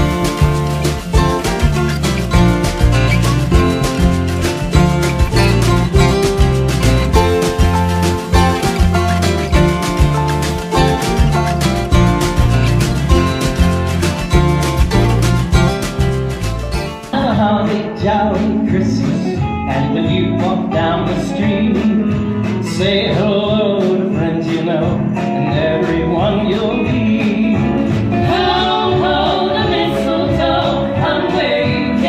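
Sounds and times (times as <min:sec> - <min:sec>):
country music with singing: 0:00.0 - 0:32.0.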